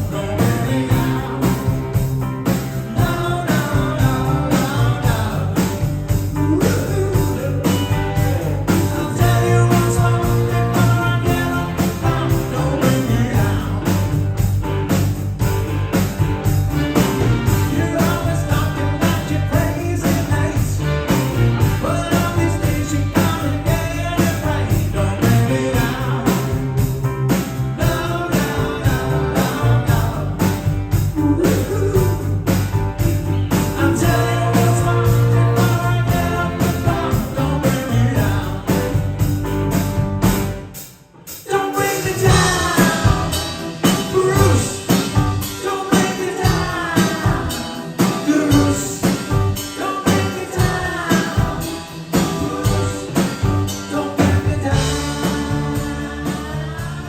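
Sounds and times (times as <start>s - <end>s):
lead singer vocals: 0.0s - 2.2s, 2.8s - 14.4s, 17.5s - 21.0s, 21.6s - 39.4s, 41.3s - 57.0s
rock band playing: 0.0s - 57.0s
steady drum beat: 0.0s - 57.0s.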